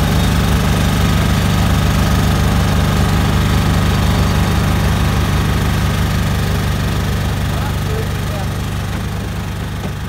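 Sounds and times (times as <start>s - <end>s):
paver engine running: 0.0s - 10.0s.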